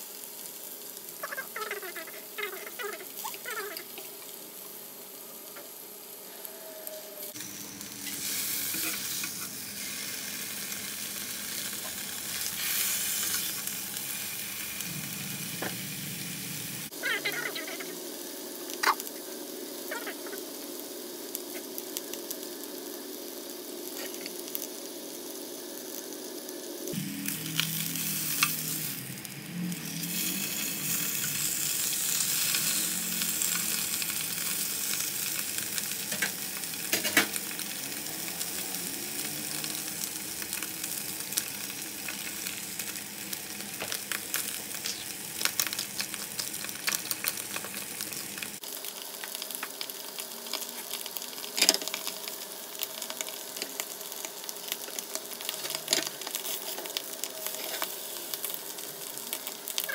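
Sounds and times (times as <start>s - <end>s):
fish sizzling in a frying pan: 0.0s - 59.9s.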